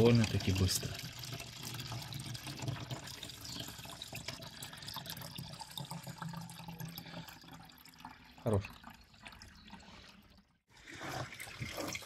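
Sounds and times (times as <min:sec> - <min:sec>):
liquid running into plastic bottle: 0:00.0 - 0:12.0.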